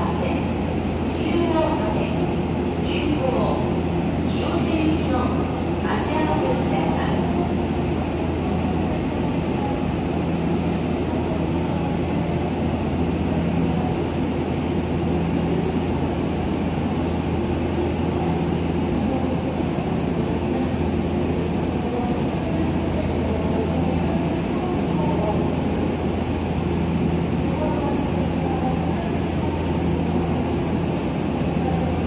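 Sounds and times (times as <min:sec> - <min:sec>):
electric train equipment humming: 0:00.0 - 0:32.0.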